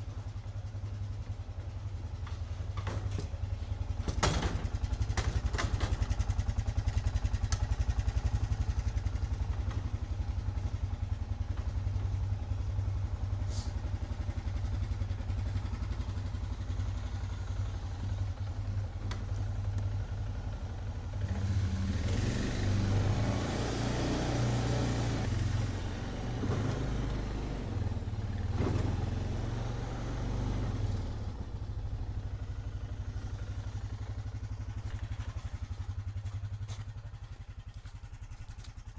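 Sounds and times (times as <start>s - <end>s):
trail vehicle engine running: 0.0s - 38.9s.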